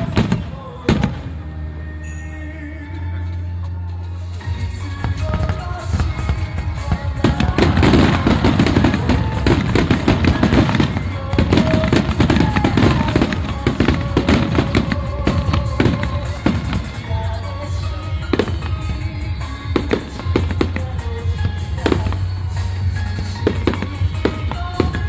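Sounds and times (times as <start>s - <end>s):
fireworks bursting and crackling: 0.0s - 1.5s, 4.3s - 25.0s
music playing: 0.0s - 25.0s.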